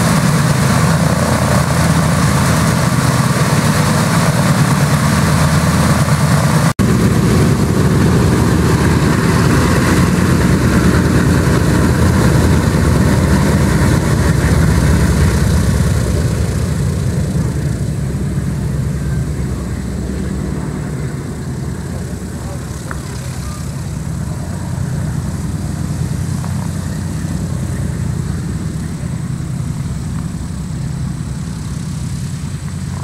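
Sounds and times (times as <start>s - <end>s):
radial aircraft engines running: 0.0s - 33.0s.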